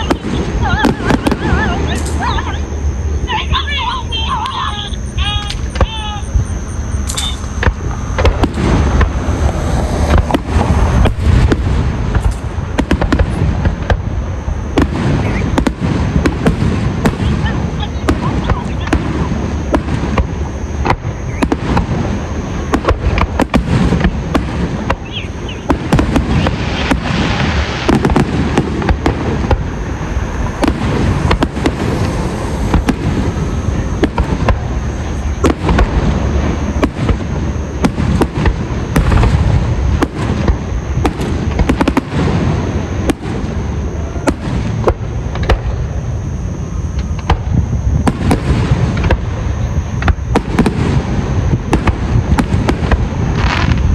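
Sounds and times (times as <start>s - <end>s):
firework bangs: 0.0s - 53.9s
fireworks crackling: 0.0s - 53.9s
low rumble of booms: 0.0s - 53.9s.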